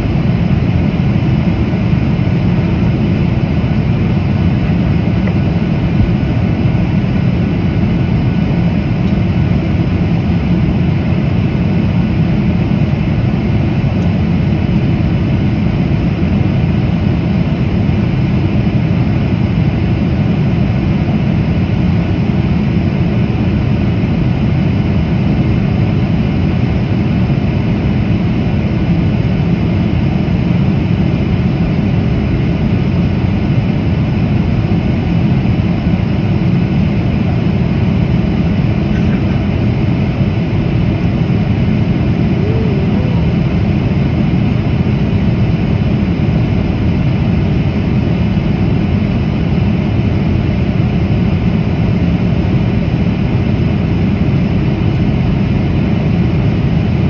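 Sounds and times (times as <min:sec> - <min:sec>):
air rushing along fuselage: 0:00.0 - 0:57.0
airplane cabin engine drone: 0:00.0 - 0:57.0.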